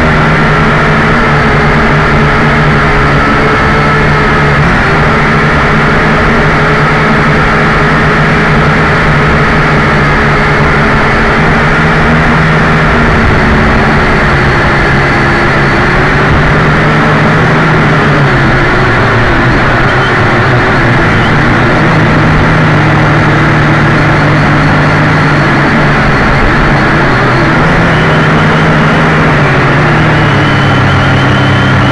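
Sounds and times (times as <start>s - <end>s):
drone propellers buzzing: 0.0s - 31.9s.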